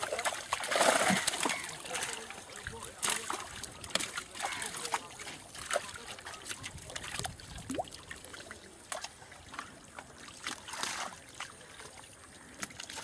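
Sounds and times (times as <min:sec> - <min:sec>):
small water splashes: 0:00.0 - 0:13.0
trickling water: 0:00.0 - 0:13.0.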